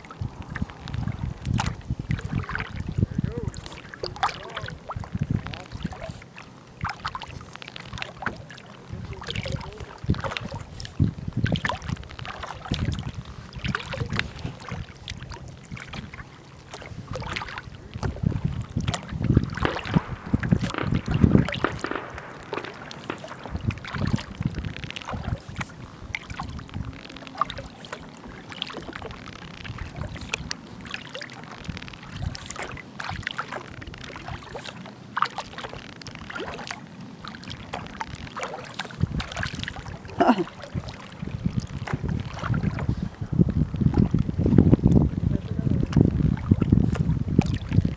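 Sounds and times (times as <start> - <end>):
small waves lapping against kayak hull: 0.0 - 47.9.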